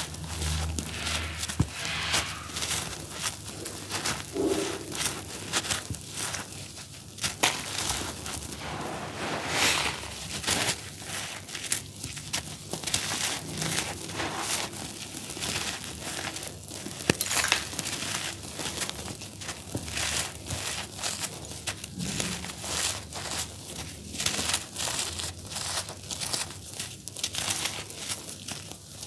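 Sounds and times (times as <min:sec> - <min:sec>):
charcoal lumps crunching and cracking: 0:00.0 - 0:08.6, 0:10.1 - 0:29.0
gritty rustle of crumbling charcoal: 0:00.0 - 0:29.0.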